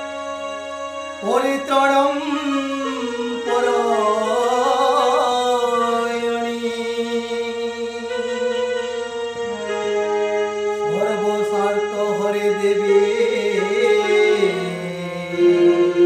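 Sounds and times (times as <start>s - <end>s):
electronic keyboard sustained notes: 0.0s - 16.0s
harmonium: 0.0s - 16.0s
man singing devotional melody: 1.2s - 16.0s.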